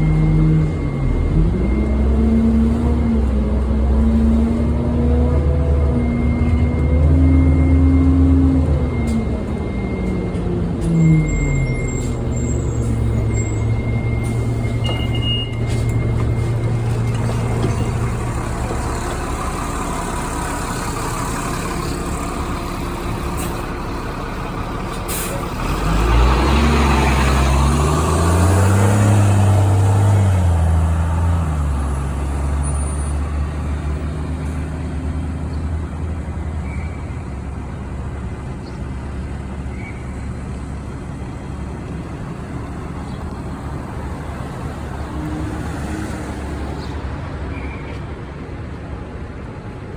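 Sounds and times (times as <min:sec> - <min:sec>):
bus engine revving: 0:00.0 - 0:49.9.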